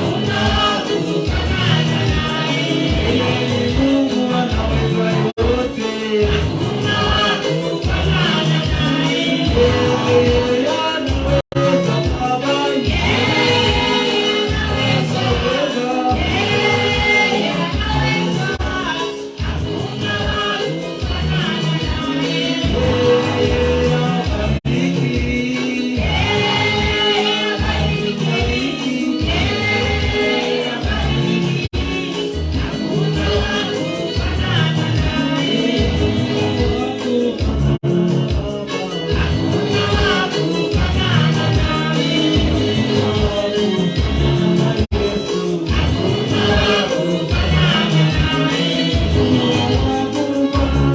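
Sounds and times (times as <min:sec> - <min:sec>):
live gospel music: 0:00.0 - 0:50.9
tambourine percussion: 0:00.0 - 0:50.9.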